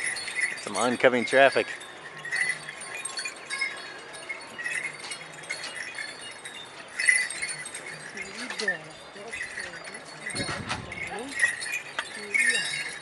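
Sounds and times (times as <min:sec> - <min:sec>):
small metal bells jingling: 0:00.0 - 0:13.0.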